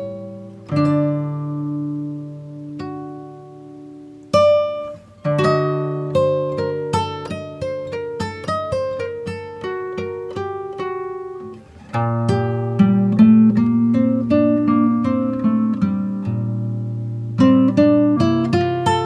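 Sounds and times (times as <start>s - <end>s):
plucked string music: 0.0s - 19.0s.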